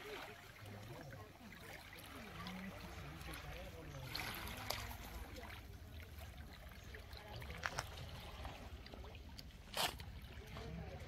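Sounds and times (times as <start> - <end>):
sea water lapping on shore: 0.0 - 11.0.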